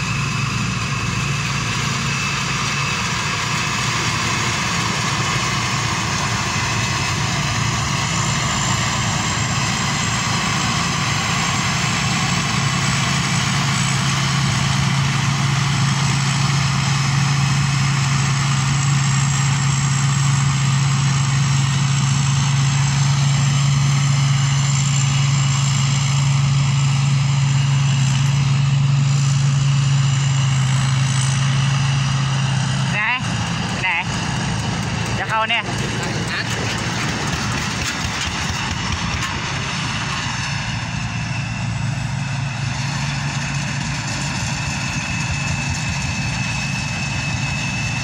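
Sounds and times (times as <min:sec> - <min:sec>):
combine harvester engine droning: 0:00.0 - 0:48.0.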